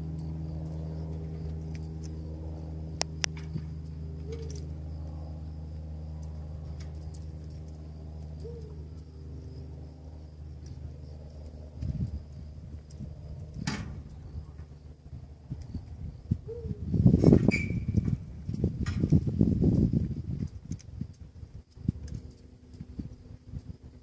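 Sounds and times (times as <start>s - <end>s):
motor humming low: 0.0s - 24.0s.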